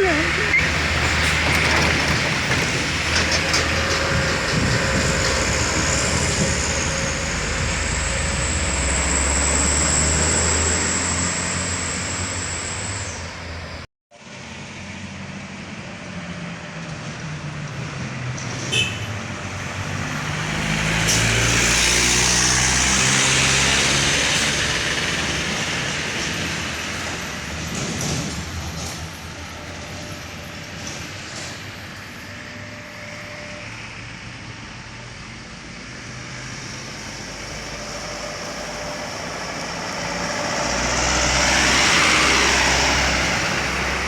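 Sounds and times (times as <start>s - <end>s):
heavy diesel engine passing: 0.0s - 13.9s, 19.2s - 44.0s.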